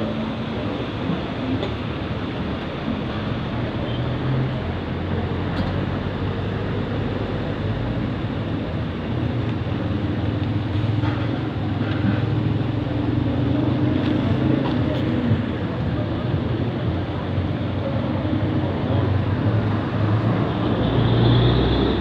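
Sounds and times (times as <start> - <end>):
passing traffic rumble: 0.0 - 22.0.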